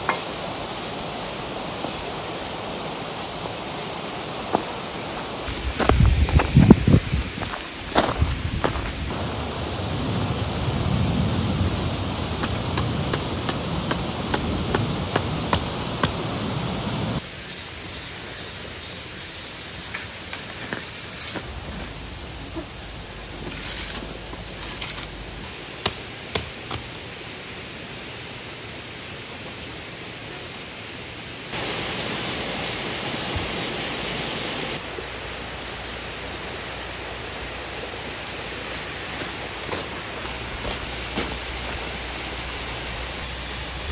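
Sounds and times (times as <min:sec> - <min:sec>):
outdoor noise hiss: 0:00.0 - 0:43.9.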